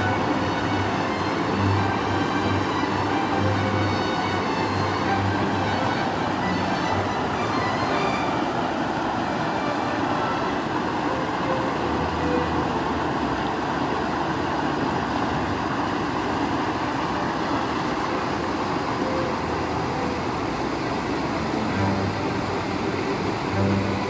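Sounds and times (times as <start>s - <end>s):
stream rushing over weir: 0.0s - 24.0s.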